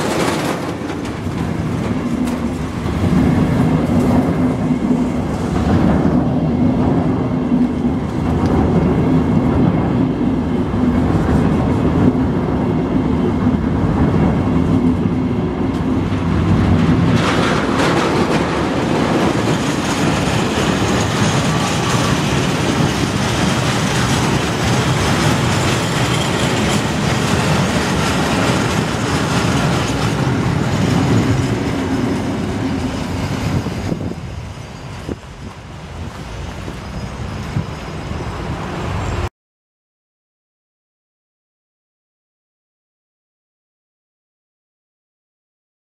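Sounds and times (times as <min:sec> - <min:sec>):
locomotive engine drone: 0:00.0 - 0:39.3
train wheels rumbling on track: 0:00.0 - 0:39.3.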